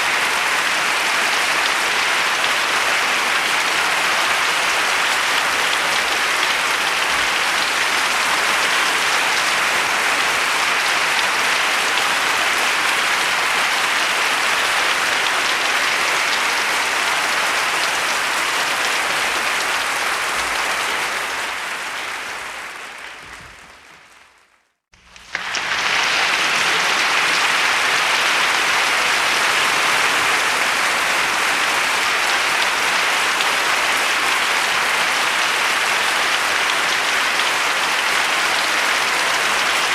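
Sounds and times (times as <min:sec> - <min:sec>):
crowd applause: 0:00.0 - 0:39.9.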